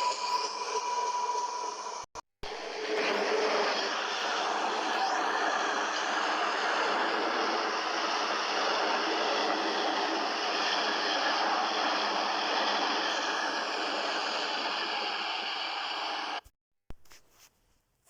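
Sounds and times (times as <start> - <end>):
train passing: 0.0 - 16.4.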